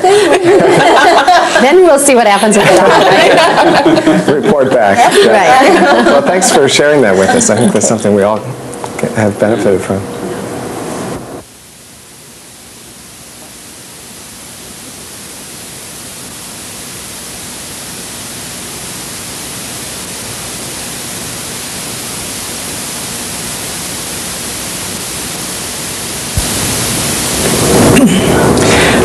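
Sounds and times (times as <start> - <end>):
static hiss: 0.0 - 29.0.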